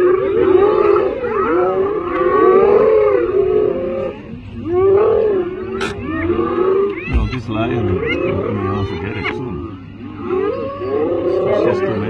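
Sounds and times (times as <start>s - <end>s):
hyenas calling: 0.0s - 12.0s.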